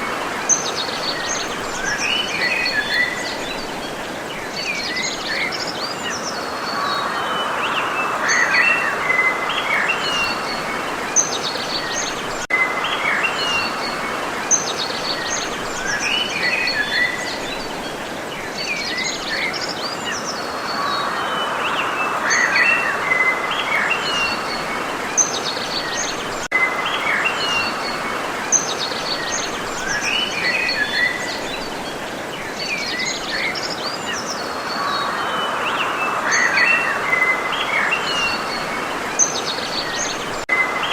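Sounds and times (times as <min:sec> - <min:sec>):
small birds chirping and trilling: 0:00.0 - 0:40.9
steady background hiss: 0:00.0 - 0:40.9.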